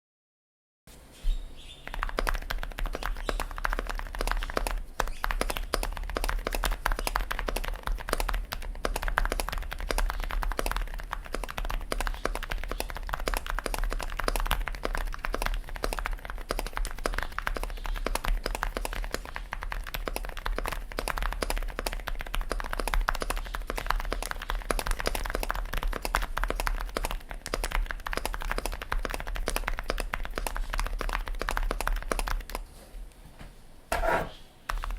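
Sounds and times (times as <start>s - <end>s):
mechanical keyboard typing: 1.8s - 32.6s.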